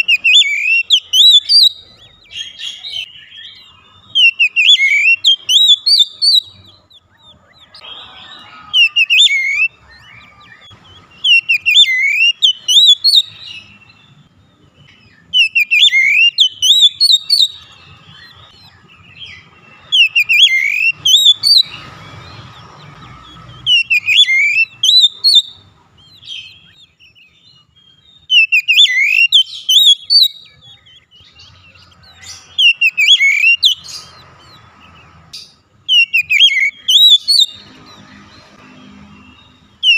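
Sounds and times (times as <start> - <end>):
songbird singing sharp notes: 0.0 - 39.9.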